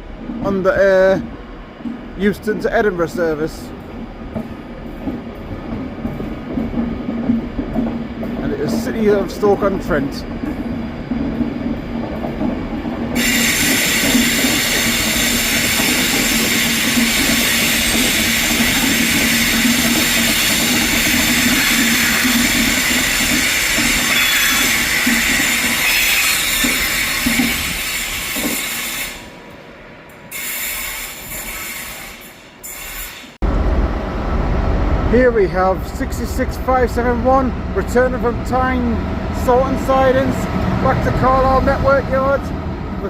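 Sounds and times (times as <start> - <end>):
electric train hum: 0.0 - 43.0
train rushing noise: 0.0 - 43.0.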